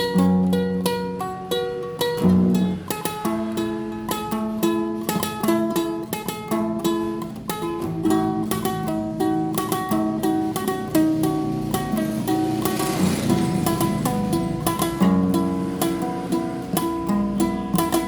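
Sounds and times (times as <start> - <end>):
classical guitar playing: 0.0 - 18.0.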